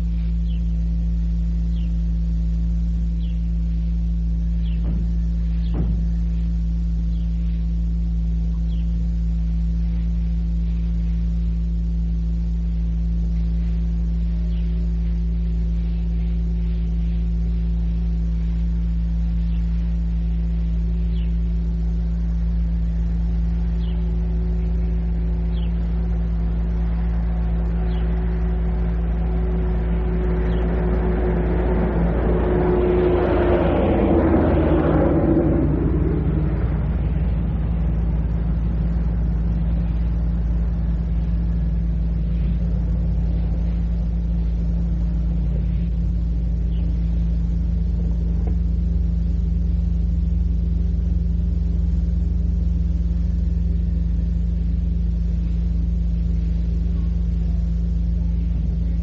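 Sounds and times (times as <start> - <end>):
low electrical hum: 0.0 - 59.0
motor vehicle approaching: 0.0 - 59.0.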